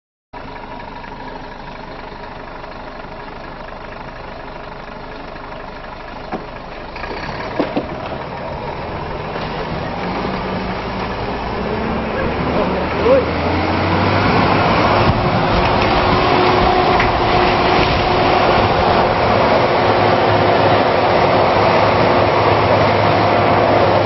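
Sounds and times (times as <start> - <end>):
diesel truck engine running: 0.4 - 24.0.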